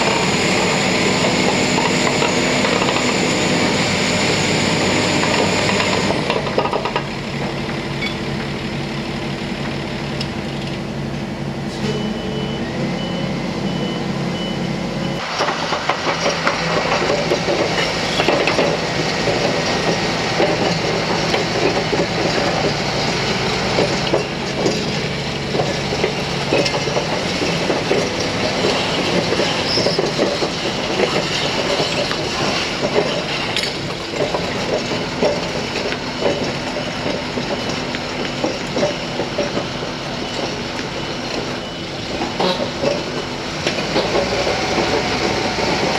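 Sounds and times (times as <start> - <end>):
diesel engine idling: 0.0 - 45.9
steel crawler tracks clattering: 0.0 - 45.9.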